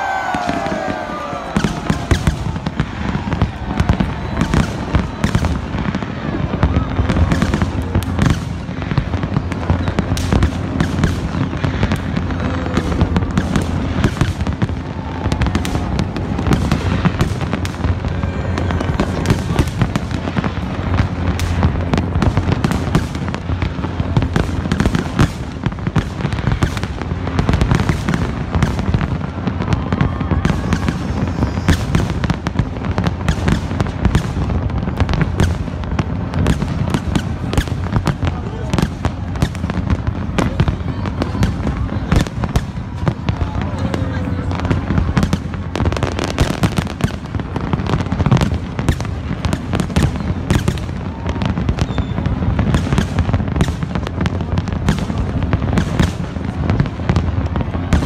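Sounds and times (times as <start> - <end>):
continuous low rumble: 0.0 - 58.0
fireworks bangs and crackles: 0.0 - 58.0.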